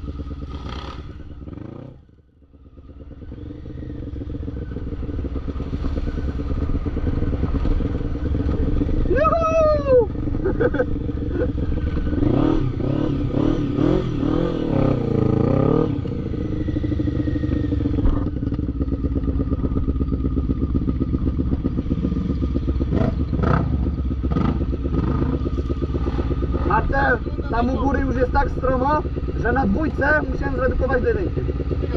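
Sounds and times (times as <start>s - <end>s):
quad bike engine revving: 0.0s - 31.9s.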